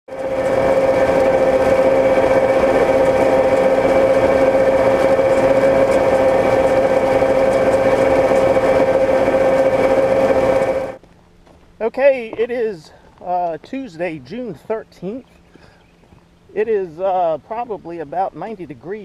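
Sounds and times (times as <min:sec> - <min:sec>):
machine whirring and humming: 0:00.1 - 0:19.0.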